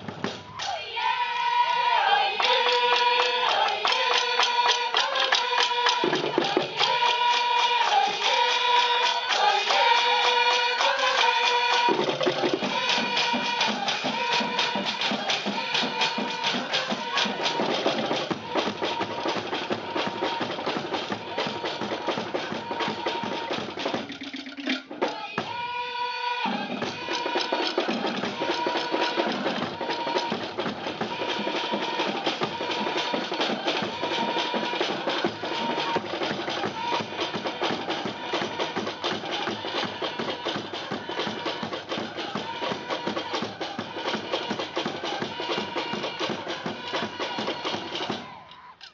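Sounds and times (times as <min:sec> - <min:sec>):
drum ensemble fast rhythm: 0:00.0 - 0:00.7, 0:02.0 - 0:25.8, 0:26.4 - 0:48.6.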